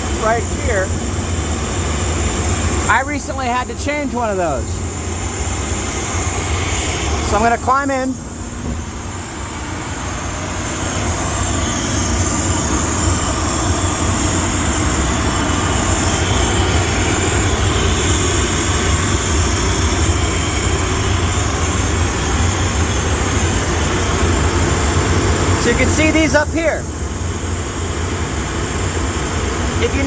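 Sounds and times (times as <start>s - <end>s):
machinery drone with hiss: 0.0s - 30.0s.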